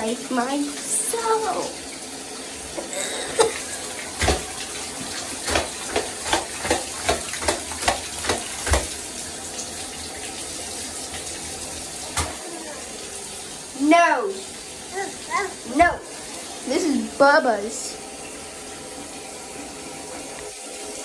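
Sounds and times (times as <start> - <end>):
tap water running into bathtub: 0.0 - 21.0.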